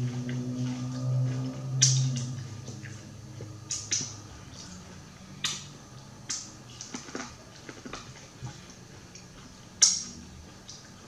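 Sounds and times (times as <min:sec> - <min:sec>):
biting and chewing corn: 0:00.0 - 0:11.0
faint low hum: 0:00.0 - 0:11.0.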